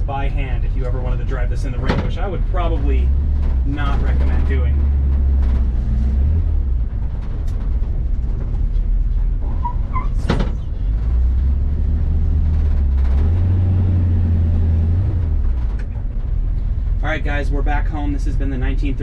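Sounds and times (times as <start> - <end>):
truck engine deep rumble: 0.0 - 19.0.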